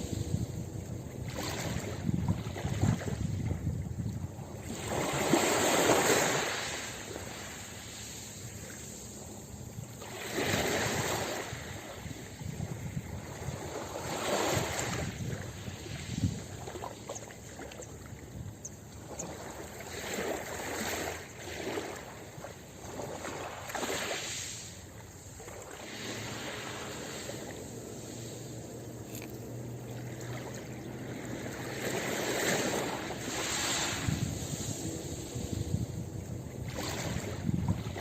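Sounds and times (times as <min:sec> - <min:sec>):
ocean waves washing onto beach: 0:00.0 - 0:38.0.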